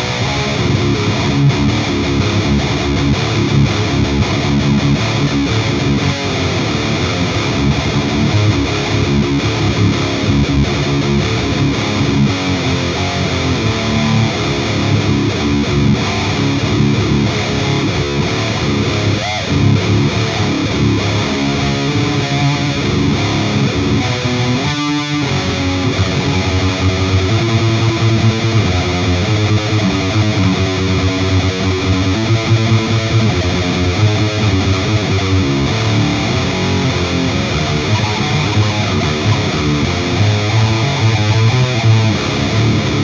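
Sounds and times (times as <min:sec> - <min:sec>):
distorted electric guitar riffing: 0:00.0 - 0:43.0.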